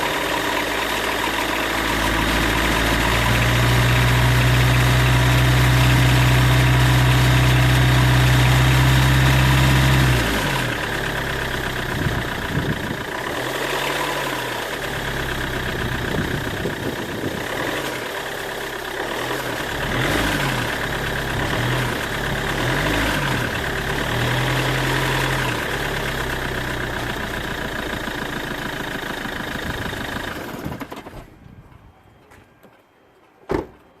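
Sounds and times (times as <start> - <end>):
diesel engine revving: 0.0 - 30.8
abnormal engine noise: 0.0 - 31.4.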